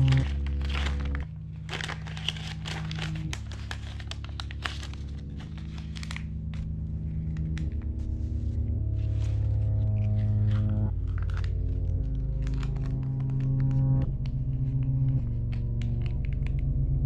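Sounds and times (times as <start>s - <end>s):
banknotes rustling as counted: 0.0s - 16.6s
low music drone: 0.0s - 17.0s.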